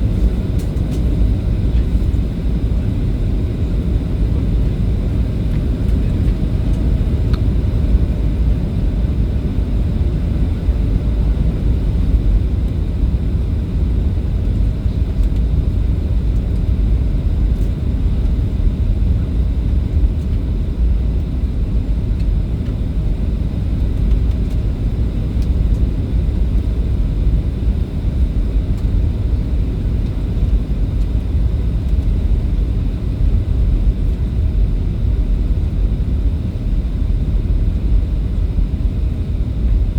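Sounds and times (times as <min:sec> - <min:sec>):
airliner engines and airflow rumble: 0:00.0 - 0:39.9.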